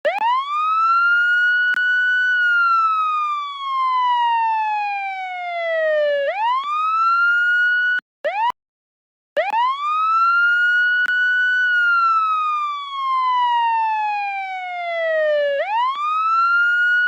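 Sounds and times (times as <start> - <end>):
police siren wailing: 0.0 - 8.5, 9.4 - 17.0.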